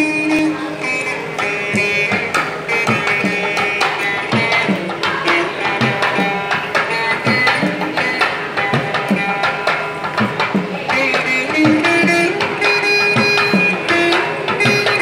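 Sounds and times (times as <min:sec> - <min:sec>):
hand drum beating: 0:00.0 - 0:15.0
plucked string instrument melody: 0:00.0 - 0:15.0.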